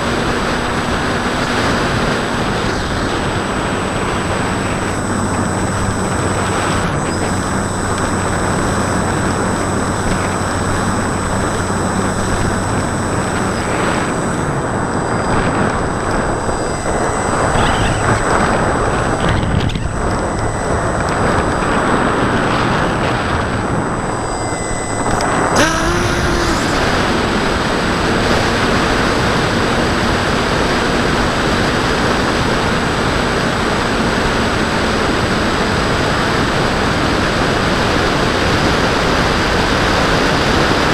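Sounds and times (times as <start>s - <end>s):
electric motor and propeller hum: 0.0s - 39.3s
wind rushing over microphone: 0.0s - 40.9s.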